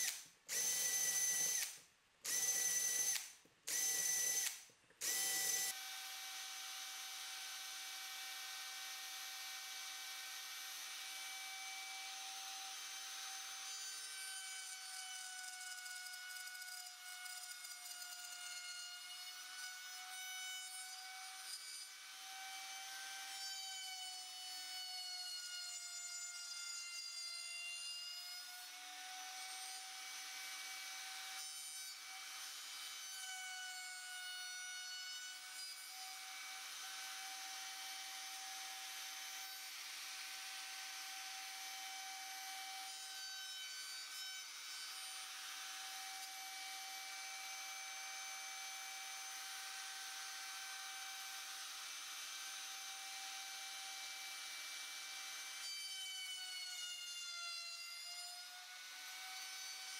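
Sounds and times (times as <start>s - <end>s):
router bit cutting wood: 0.0s - 59.9s
router whining: 0.0s - 59.9s.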